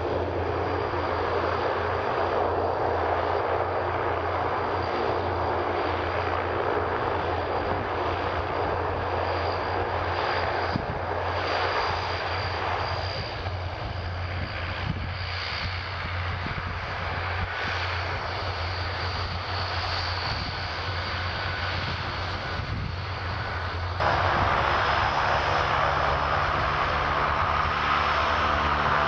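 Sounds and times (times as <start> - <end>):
turboprop engines droning: 0.0 - 29.0.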